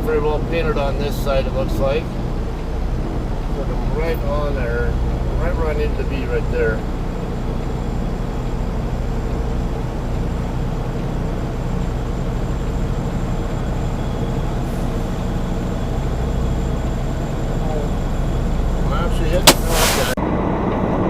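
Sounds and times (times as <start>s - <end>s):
diesel engine running at low revs: 0.0s - 21.0s.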